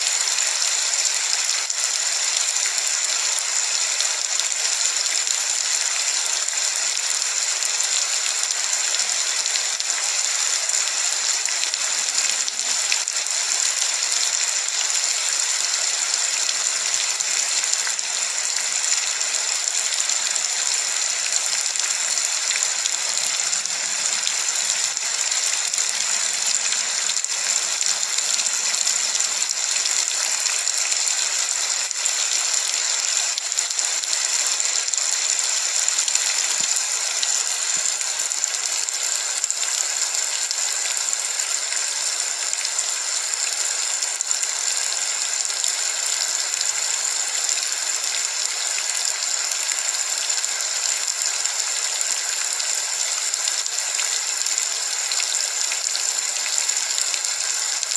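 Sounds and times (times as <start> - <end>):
rain falling steadily: 0.0 - 57.9.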